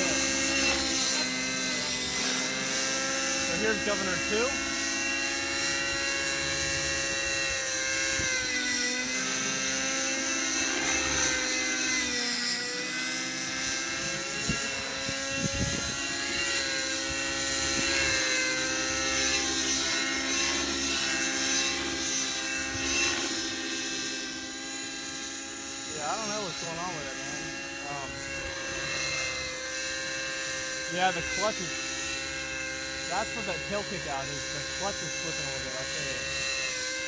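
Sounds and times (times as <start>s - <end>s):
model helicopter engine whine: 0.0s - 37.0s.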